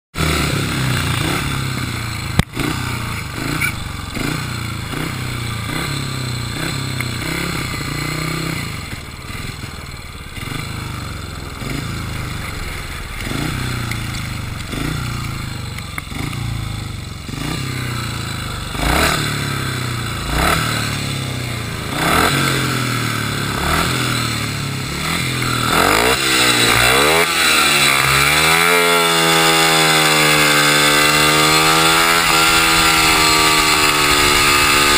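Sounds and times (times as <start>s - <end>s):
motorcycle engine throttle blips: 0.2s - 34.9s.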